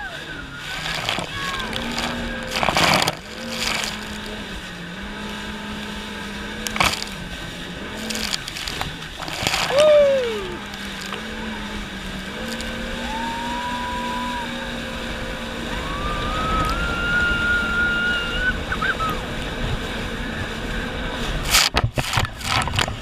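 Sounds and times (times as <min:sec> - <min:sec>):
jet ski engine whine: 0:00.0 - 0:23.0
wind and water rushing: 0:00.0 - 0:23.0.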